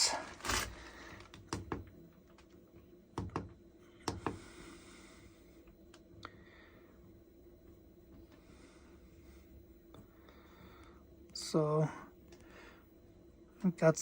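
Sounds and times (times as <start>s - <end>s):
heater fan hum: 0.0s - 14.0s.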